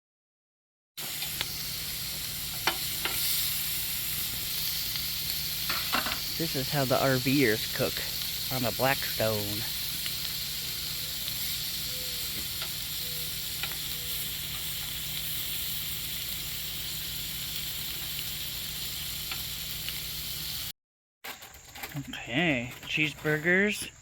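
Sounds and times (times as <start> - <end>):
food sizzling on a griddle: 1.0 - 20.7.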